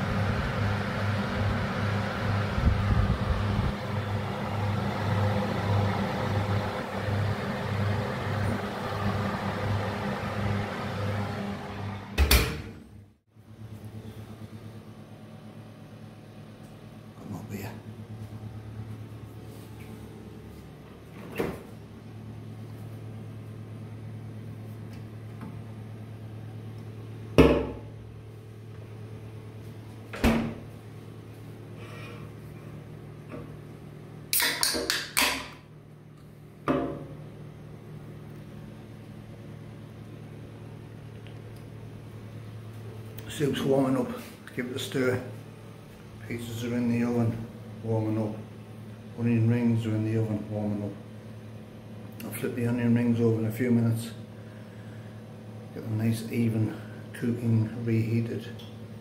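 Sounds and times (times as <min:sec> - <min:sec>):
fan oven motor hum: 0:00.0 - 0:59.0.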